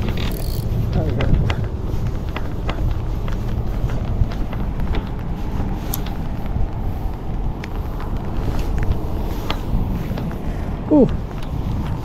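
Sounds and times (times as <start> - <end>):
light ticks and clicks: 0.0 - 12.0
wind rumbling on microphone: 0.0 - 12.0.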